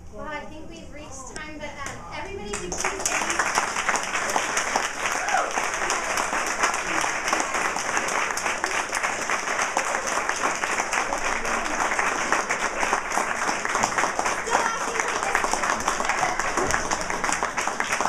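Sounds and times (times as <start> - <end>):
audience clapping: 2.5 - 18.0.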